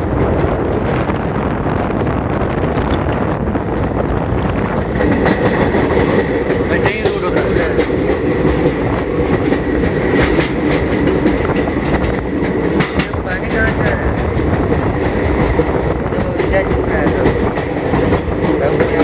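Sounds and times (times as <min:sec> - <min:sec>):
train rumbling on rails: 0:00.0 - 0:19.0
wheels clicking over track: 0:00.0 - 0:19.0.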